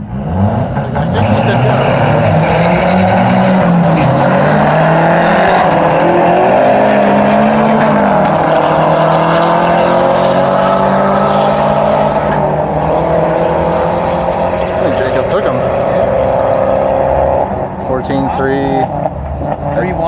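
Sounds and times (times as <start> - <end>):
car engine droning under load: 0.0 - 20.0.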